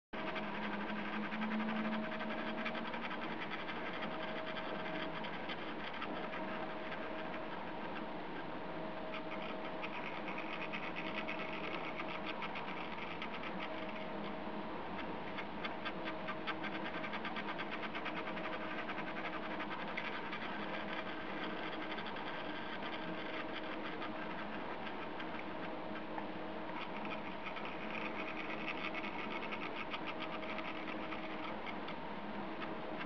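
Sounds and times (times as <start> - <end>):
fast regular ticking: 0.2 - 8.5, 9.1 - 14.3, 15.0 - 32.0.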